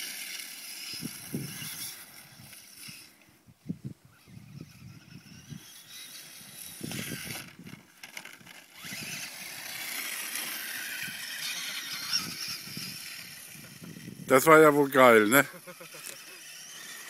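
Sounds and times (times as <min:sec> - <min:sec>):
electric motor whining: 0:00.0 - 0:03.3, 0:04.1 - 0:17.0.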